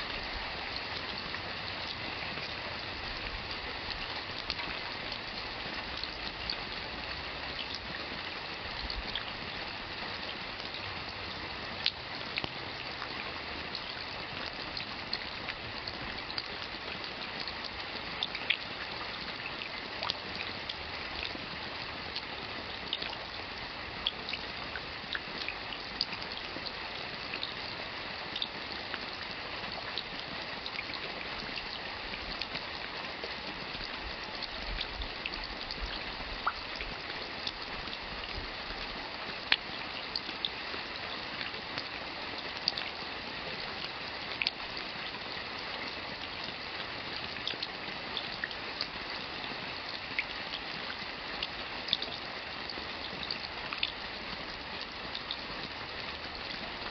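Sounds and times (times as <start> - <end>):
raindrops ticking and splatting: 0.0 - 56.9
steady rain: 0.0 - 56.9.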